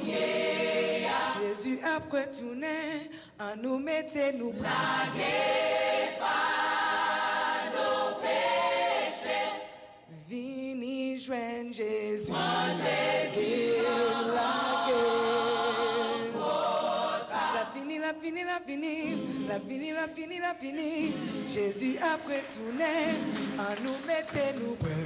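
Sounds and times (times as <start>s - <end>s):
choir singing a cappella: 0.0s - 3.0s, 4.1s - 10.2s, 12.1s - 25.0s.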